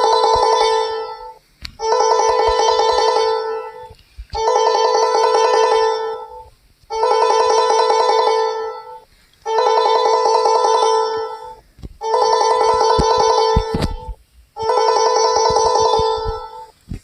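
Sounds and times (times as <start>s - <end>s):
musical ringtone: 0.0s - 16.7s.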